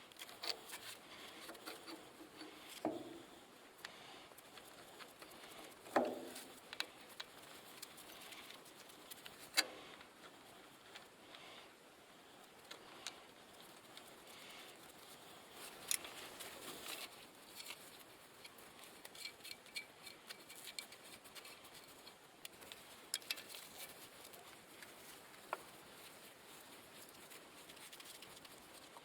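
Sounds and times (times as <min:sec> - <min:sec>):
light clicks and taps: 0:03.8 - 0:11.5, 0:12.4 - 0:29.0.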